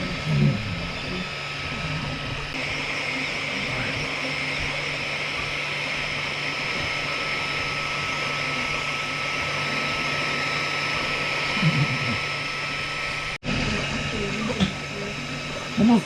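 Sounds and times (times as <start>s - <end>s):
printer cooling fans whirring: 0.0s - 16.0s
thin whine: 0.0s - 16.0s.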